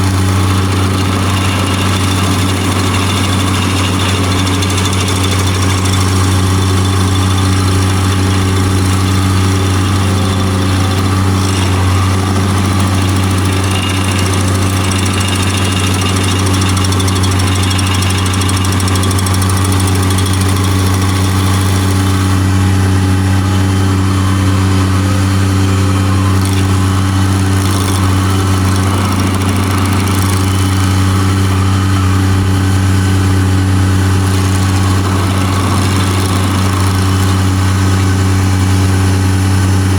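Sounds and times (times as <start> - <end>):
skid steer engine running: 0.0 - 39.9
stump grinder grinding: 0.0 - 39.9.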